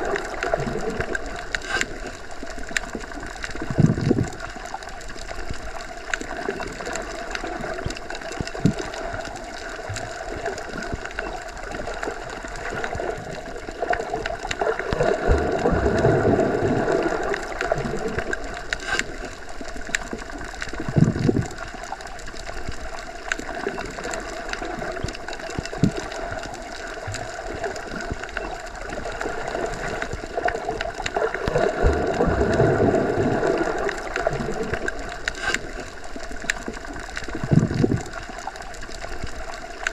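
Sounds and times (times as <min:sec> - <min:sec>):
muffled underwater wash: 0:00.0 - 0:39.9.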